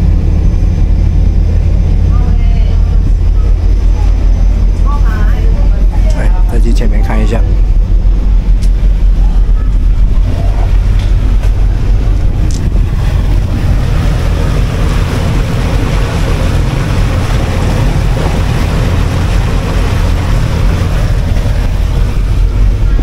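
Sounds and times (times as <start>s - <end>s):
boat engine drone: 0.0s - 23.0s
water rushing along hull: 0.0s - 23.0s
wind rushing over microphone: 0.0s - 23.0s.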